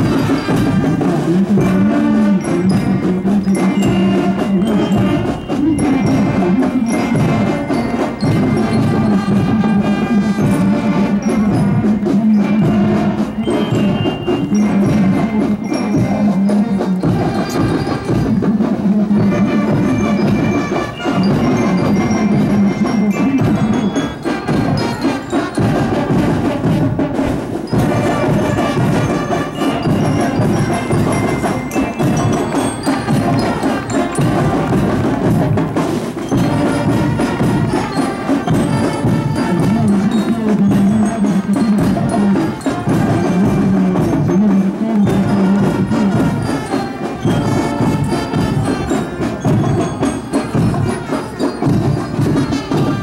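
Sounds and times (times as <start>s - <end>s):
bell lyres playing melody: 0.0s - 53.0s
marching band drumming: 0.0s - 53.0s.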